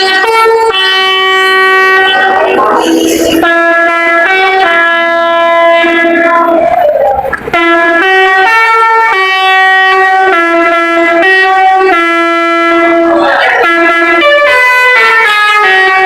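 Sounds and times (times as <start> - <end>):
musical bus air horn tune: 0.0 - 16.0.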